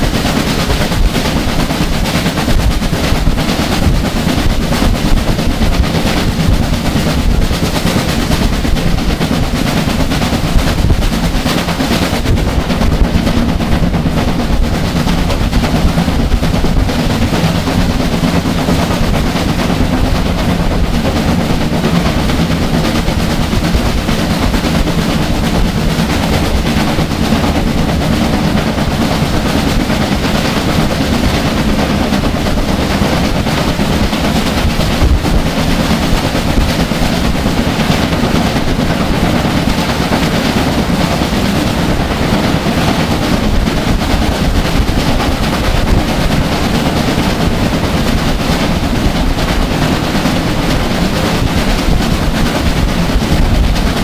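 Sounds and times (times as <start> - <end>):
steam locomotive exhaust beats: 0.0 - 54.0
train running clatter: 0.0 - 54.0.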